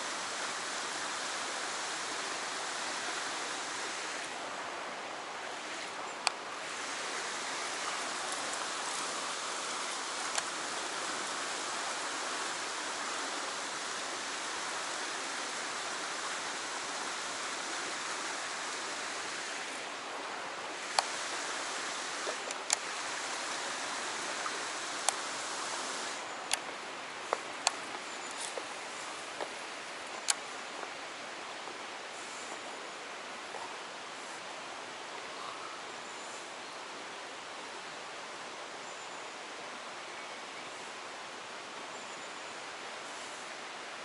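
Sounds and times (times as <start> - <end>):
river water rushing over rock: 0.0 - 35.2.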